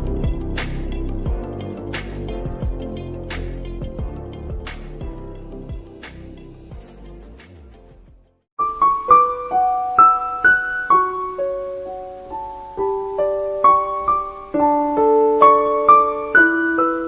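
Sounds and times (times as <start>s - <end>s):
slow piano melody: 0.0s - 7.2s, 8.6s - 17.0s.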